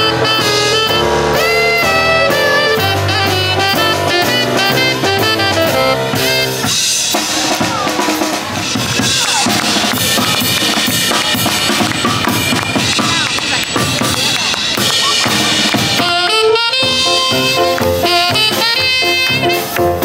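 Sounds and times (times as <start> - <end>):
saxophone: 0.0 - 6.9, 9.8 - 20.0
electric keyboard: 0.0 - 8.3, 9.4 - 20.0
drum kit playing: 0.0 - 20.0.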